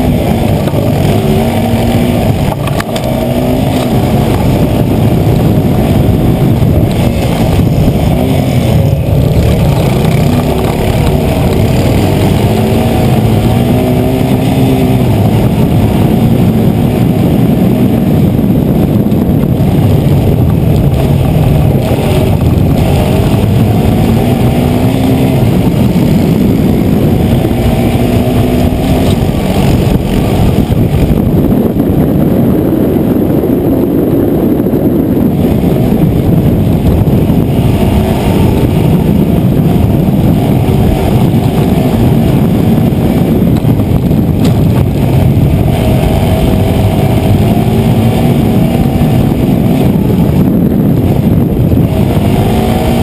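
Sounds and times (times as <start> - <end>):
quad bike engine revving: 0.0 - 53.0.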